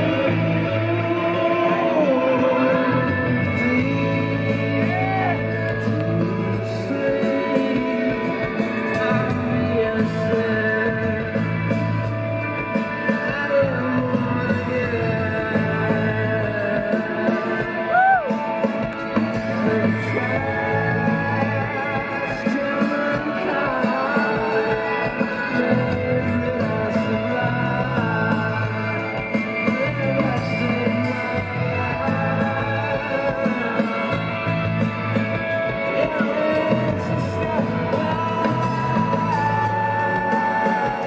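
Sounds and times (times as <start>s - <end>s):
bass guitar: 0.0s - 41.0s
drums: 0.0s - 41.0s
electric guitars: 0.0s - 41.0s
man singing lead vocal: 0.0s - 41.0s.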